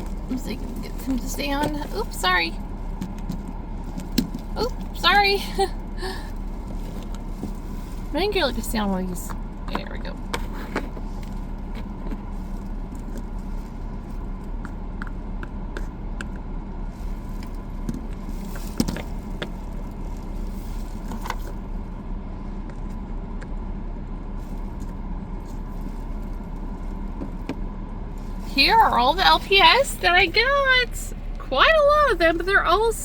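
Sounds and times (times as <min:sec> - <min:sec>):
car engine idling hum: 0:00.0 - 0:33.0.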